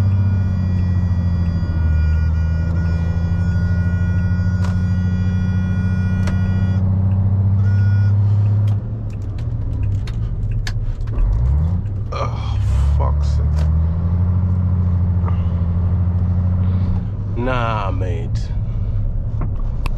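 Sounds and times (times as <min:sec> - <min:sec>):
diesel lorry engine running: 0:00.0 - 0:19.9.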